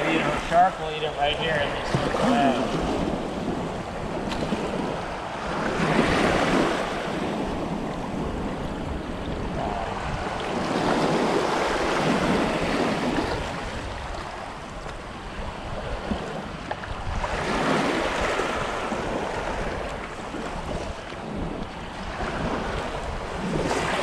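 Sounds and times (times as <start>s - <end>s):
small waves washing over sand: 0.0s - 24.0s
wind on microphone: 0.0s - 24.0s.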